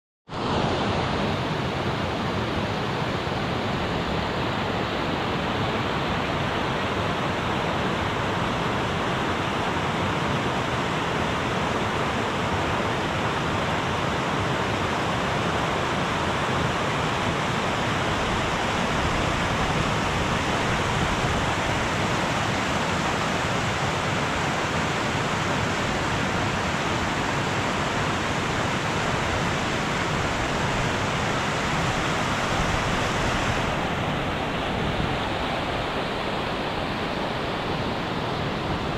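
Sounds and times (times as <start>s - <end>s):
stream rushing over rocks: 0.3s - 38.9s.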